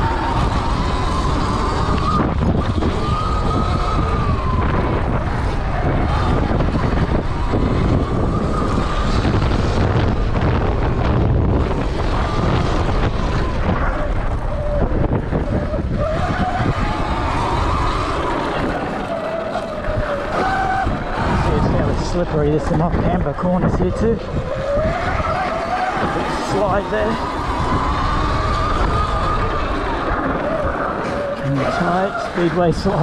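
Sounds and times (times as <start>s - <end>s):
electric motor whine: 0.0s - 22.8s, 24.1s - 33.0s
tyres rumbling on dirt: 0.0s - 33.0s
wind noise on microphone: 0.0s - 33.0s.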